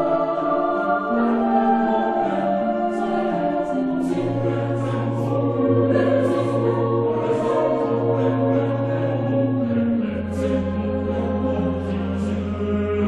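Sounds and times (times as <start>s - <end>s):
choir singing slow chords: 0.0s - 13.0s.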